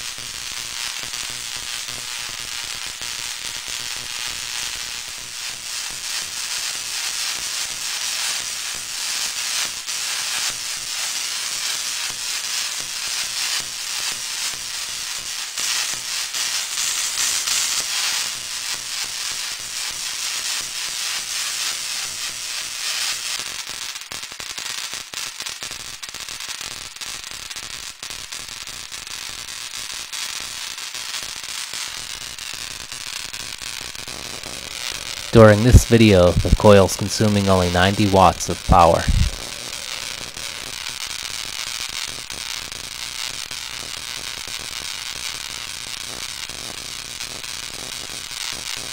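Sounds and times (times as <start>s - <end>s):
tesla coil spark crackling: 0.0s - 48.9s.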